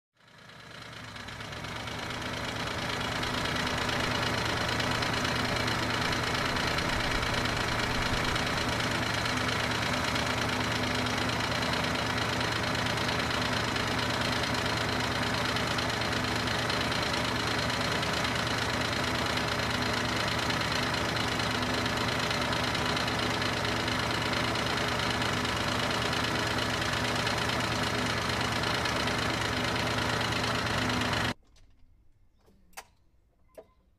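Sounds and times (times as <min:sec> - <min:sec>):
car engine running: 0:00.2 - 0:31.4.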